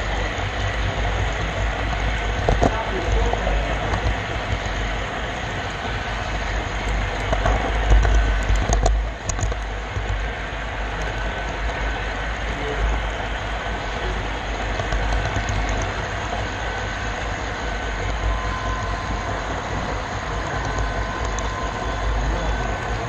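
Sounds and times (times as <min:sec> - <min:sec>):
model train wheels rumbling: 0:00.0 - 0:23.0.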